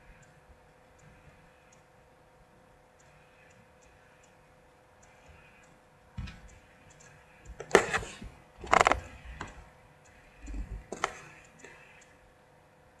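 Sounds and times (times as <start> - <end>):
clock ticking: 0.0 - 1.9, 2.9 - 12.1.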